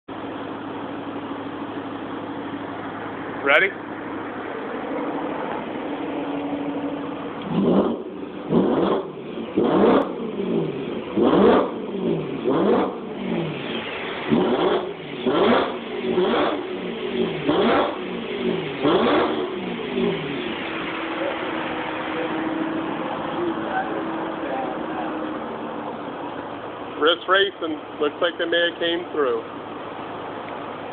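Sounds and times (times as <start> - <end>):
car engine idling and revving: 0.1 - 30.9.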